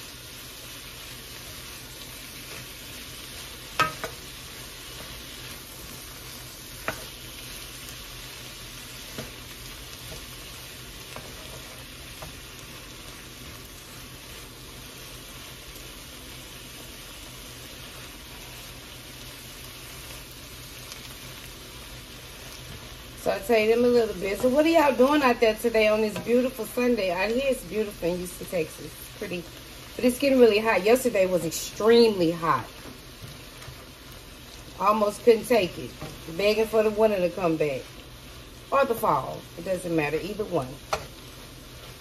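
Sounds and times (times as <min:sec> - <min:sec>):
food sizzling in a skillet: 0:00.0 - 0:42.0.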